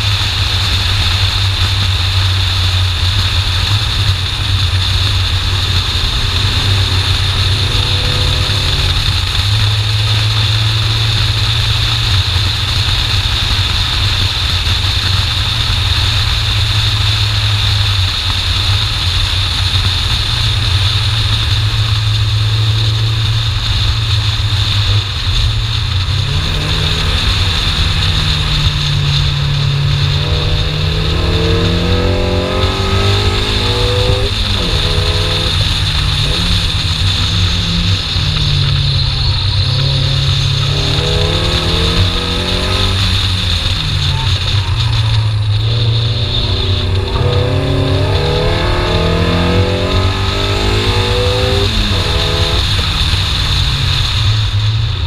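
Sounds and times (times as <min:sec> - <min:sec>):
car engine revving: 0:00.0 - 0:55.0
wind and road noise: 0:00.0 - 0:55.0.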